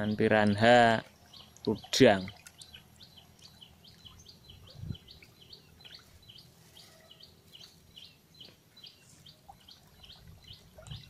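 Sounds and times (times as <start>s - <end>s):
small bird chirping: 1.2s - 11.0s.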